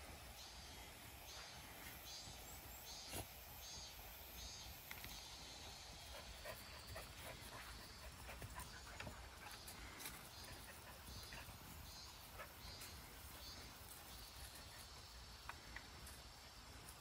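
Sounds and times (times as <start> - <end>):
cicadas singing faintly: 0.0 - 17.0.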